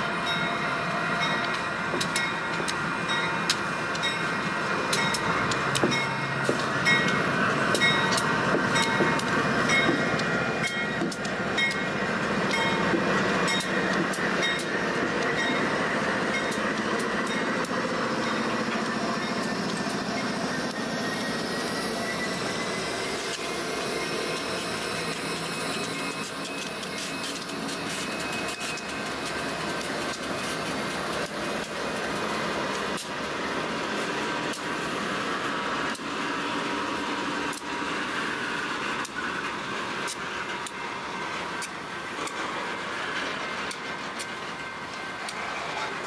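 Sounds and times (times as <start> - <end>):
diesel locomotive engine drone: 0.0 - 46.0.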